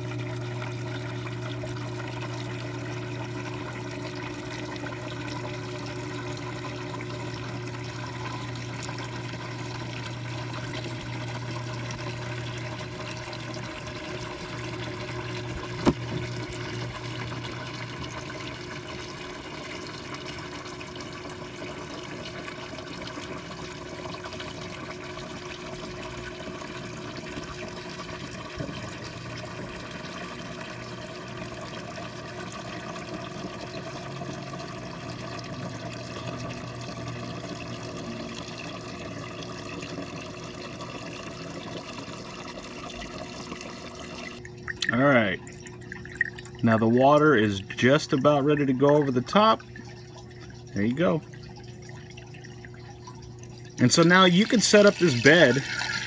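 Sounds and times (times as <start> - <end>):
water running into grow bed: 0.0 - 56.0.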